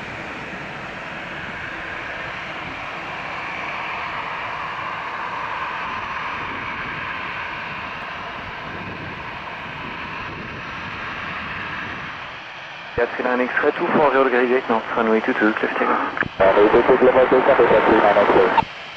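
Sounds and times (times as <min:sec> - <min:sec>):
jet engines rushing: 0:00.0 - 0:18.9.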